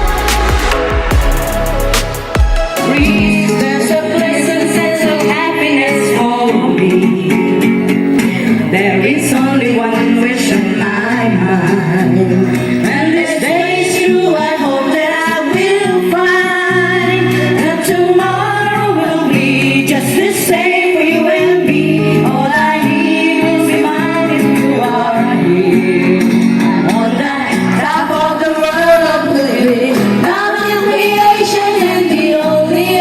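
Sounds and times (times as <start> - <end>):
song with singing and instruments: 0.0 - 33.0.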